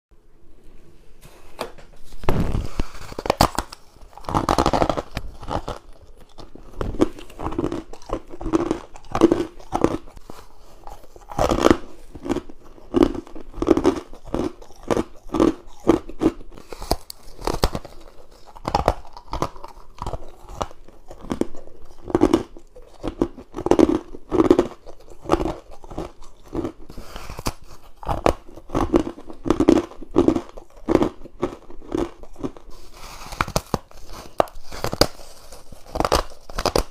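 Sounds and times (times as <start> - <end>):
crunching ice: 2.3 - 36.9.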